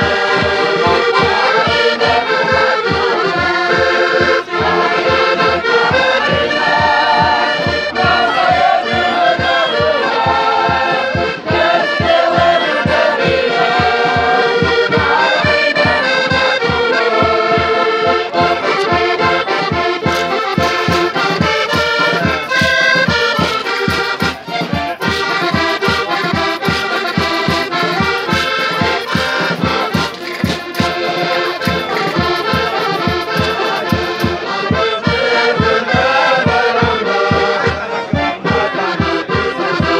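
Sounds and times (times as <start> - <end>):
accordion: 0.0 - 39.9
steady drum beat: 0.0 - 39.9
voices singing in chorus: 0.0 - 39.9.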